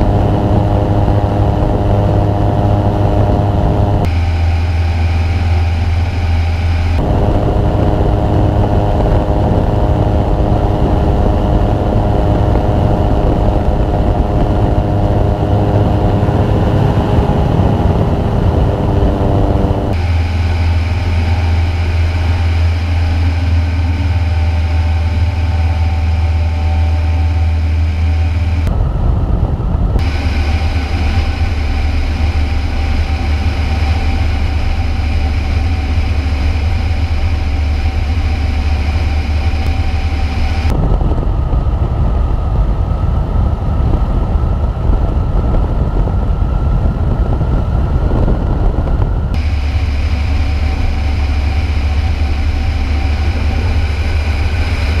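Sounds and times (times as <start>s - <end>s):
aircraft engine running: 0.0s - 55.0s
wind noise on microphone: 0.0s - 55.0s.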